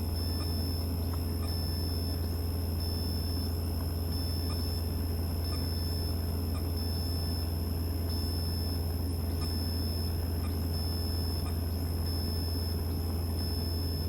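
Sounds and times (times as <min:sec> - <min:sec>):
faint high whine: 0:00.0 - 0:14.0
propeller plane engine drone: 0:00.0 - 0:14.0.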